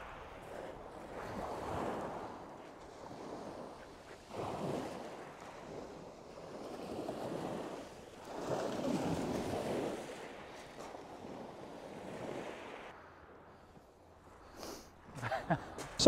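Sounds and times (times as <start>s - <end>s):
waves washing over shingle: 0.0s - 12.9s.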